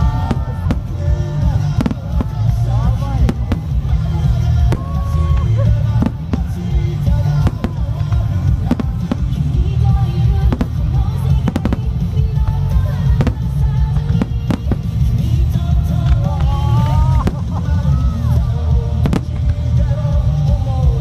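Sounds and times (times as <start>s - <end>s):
firework booms: 0.0s - 16.3s, 18.9s - 19.7s
music playing: 0.0s - 21.0s.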